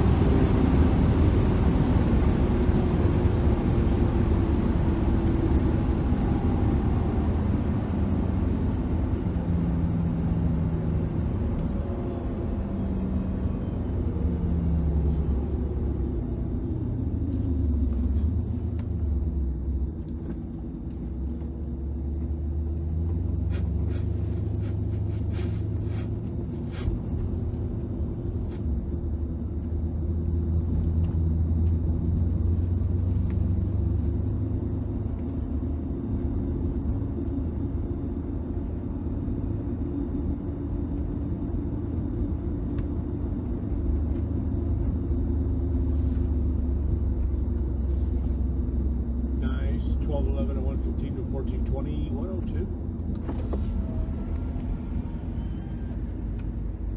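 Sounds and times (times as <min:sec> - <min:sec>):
car engine low rumble: 0:00.0 - 0:56.9
road noise: 0:00.0 - 0:56.9.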